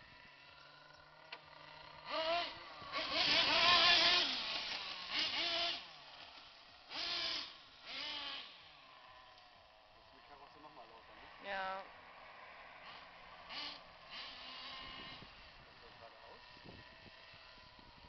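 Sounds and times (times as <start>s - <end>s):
toy car electric motor whining: 0.0s - 10.0s, 12.4s - 15.8s, 16.4s - 18.0s.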